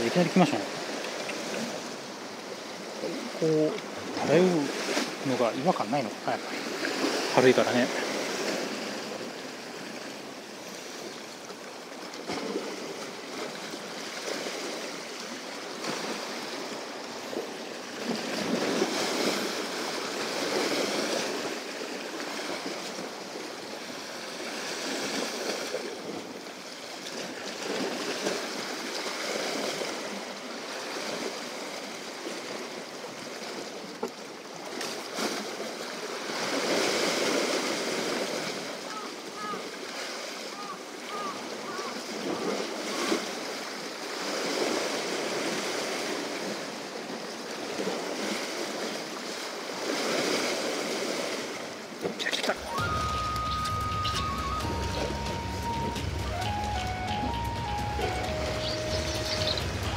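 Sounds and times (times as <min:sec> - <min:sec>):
waves breaking against rocks: 0:00.0 - 0:55.8.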